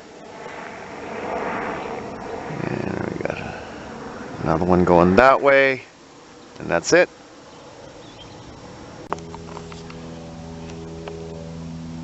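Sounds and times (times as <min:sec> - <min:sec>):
faint outdoor background noise: 0:00.0 - 0:12.0
low mechanical hum: 0:00.0 - 0:12.0.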